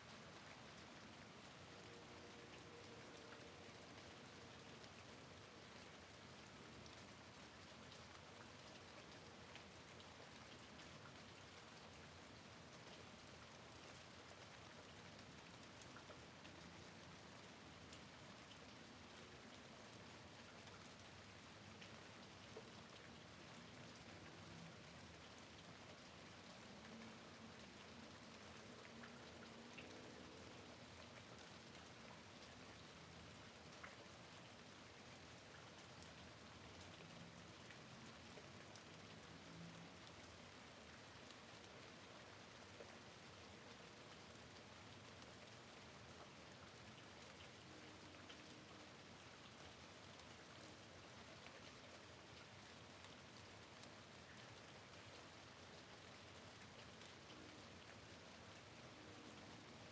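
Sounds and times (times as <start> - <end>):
faint steady rain: 0.0 - 59.9
light ticks of raindrops: 0.0 - 59.9.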